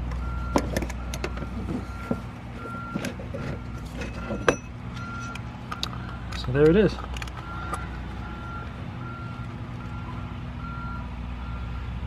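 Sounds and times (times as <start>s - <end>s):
engine humming: 0.0s - 12.0s
back-up alarm beeping: 0.2s - 6.5s, 7.3s - 11.8s.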